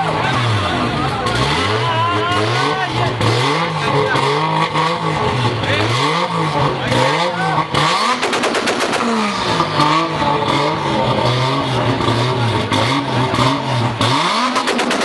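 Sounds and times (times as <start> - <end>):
car engine revving: 0.0 - 15.0
exhaust pops and crackles: 0.0 - 15.0.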